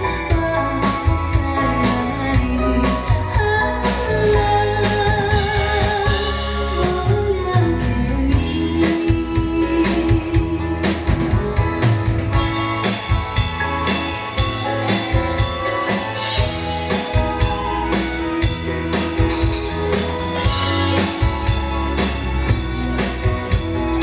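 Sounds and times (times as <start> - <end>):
drum kit beat: 0.0 - 24.0
guitar: 0.0 - 24.0.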